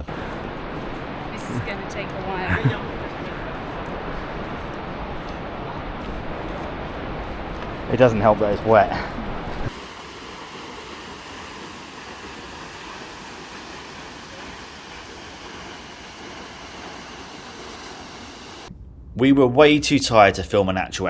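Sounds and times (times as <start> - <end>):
flowing water rushing: 0.0 - 18.7.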